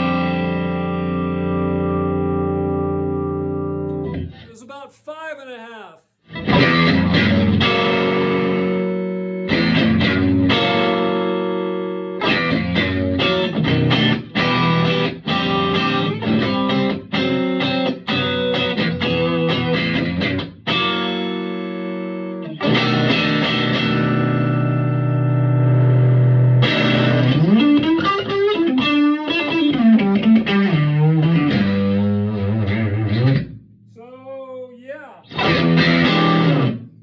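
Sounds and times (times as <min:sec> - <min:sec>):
electric guitar chords ringing: 0:00.0 - 0:04.5, 0:06.3 - 0:33.5, 0:35.3 - 0:36.8
electric guitar rhythmic strumming: 0:00.0 - 0:04.5, 0:06.2 - 0:33.6, 0:35.2 - 0:37.0.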